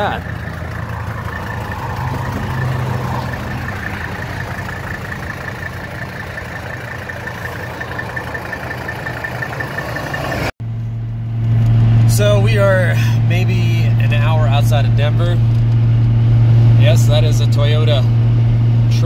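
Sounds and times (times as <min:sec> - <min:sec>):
diesel engine idling: 0:00.0 - 0:19.0
engine drone inside car: 0:00.0 - 0:19.0
passing highway traffic: 0:00.0 - 0:19.0
wind: 0:00.0 - 0:19.0.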